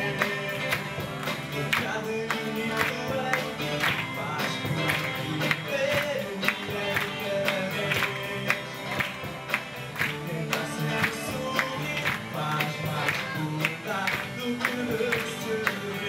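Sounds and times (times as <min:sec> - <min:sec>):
bass guitar: 0:00.0 - 0:16.0
drum kit beat: 0:00.0 - 0:16.0
electric guitars: 0:00.0 - 0:16.0.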